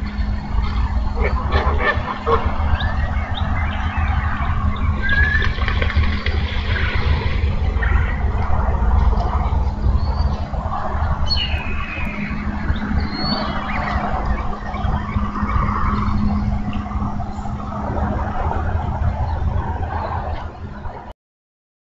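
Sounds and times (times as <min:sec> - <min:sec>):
constant hum: 0:00.0 - 0:21.1
low rumble: 0:00.0 - 0:21.1.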